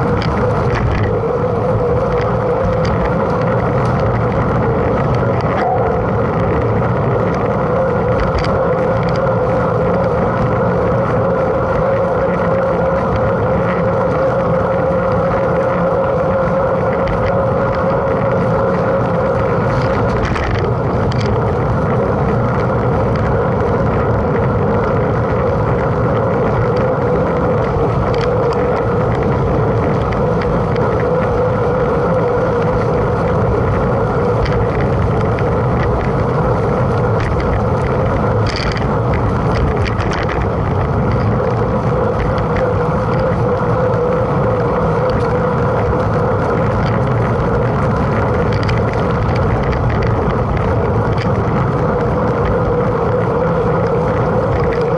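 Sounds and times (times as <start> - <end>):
bike tyres rolling: 0.0 - 54.9
wind on microphone: 0.0 - 54.9.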